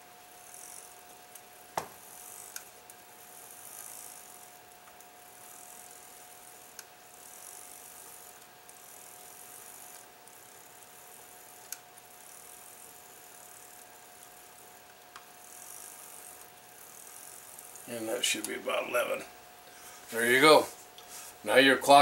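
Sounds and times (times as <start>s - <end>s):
clock gears whirring: 0.2s - 19.2s
clock mechanism clicks: 0.5s - 18.6s
faint steady ringing tone: 2.0s - 22.0s.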